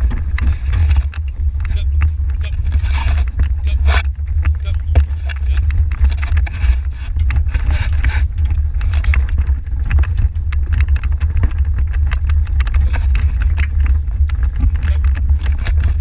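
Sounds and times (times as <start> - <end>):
carriage rumbling over grass: 0.0 - 16.0
metal carriage rattling: 0.0 - 16.0.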